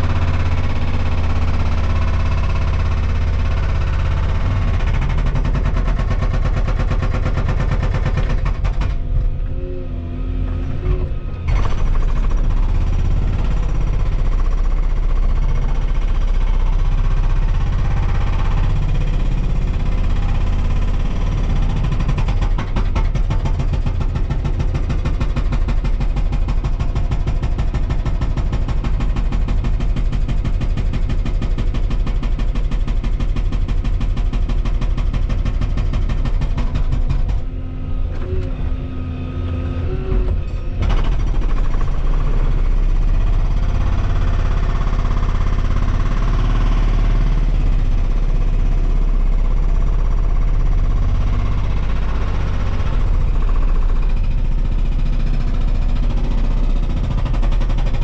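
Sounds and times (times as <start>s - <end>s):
excavator engine and hydraulics: 0.0s - 26.4s, 35.8s - 58.0s.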